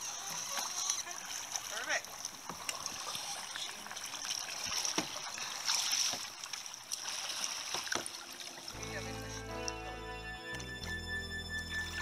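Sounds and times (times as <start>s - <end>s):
water splashing off paddles: 0.0s - 9.8s.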